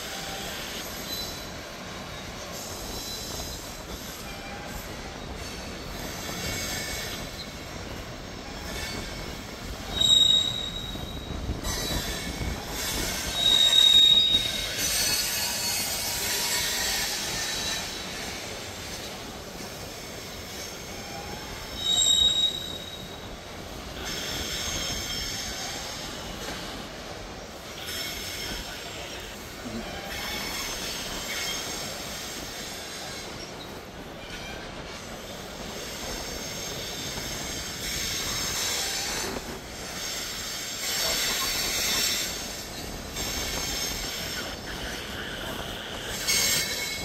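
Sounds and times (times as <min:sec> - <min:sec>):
steel wheel squeals: 0:00.0 - 0:47.0
train wheels rumbling on rail: 0:00.0 - 0:47.0.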